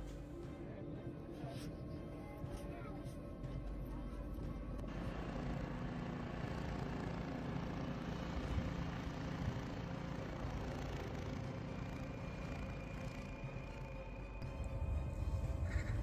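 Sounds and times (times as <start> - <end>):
faint steady tones: 0.0 - 16.0
vehicle engine rumble: 1.9 - 16.0.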